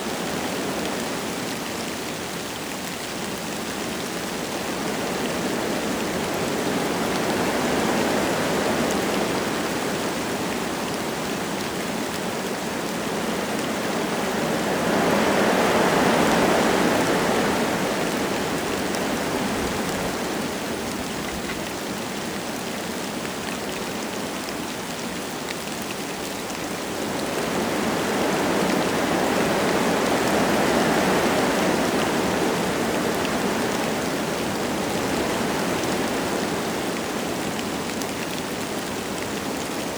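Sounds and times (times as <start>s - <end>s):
light rain falling: 0.0s - 39.9s
wind gusting through trees: 0.0s - 39.9s.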